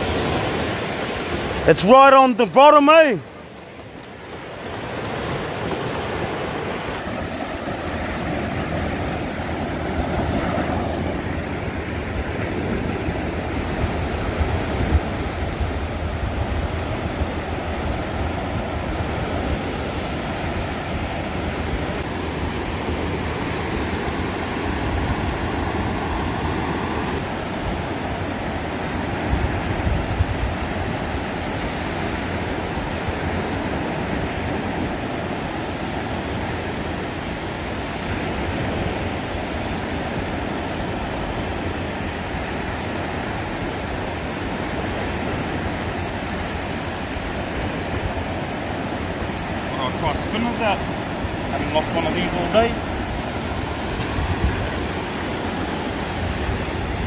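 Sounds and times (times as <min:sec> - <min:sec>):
surf breaking on beach: 0:00.0 - 0:57.0
wind rumbling on microphone: 0:03.2 - 0:57.0.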